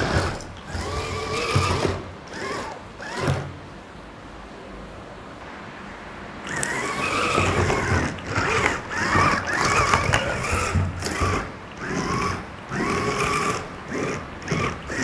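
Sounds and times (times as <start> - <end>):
electric gear motors whining: 0.0 - 3.7, 6.4 - 15.0.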